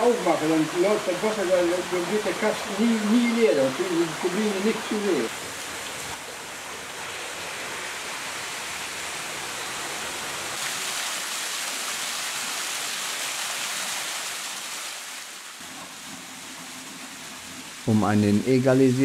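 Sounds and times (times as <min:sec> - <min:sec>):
water rushing and churning: 0:00.0 - 0:19.0.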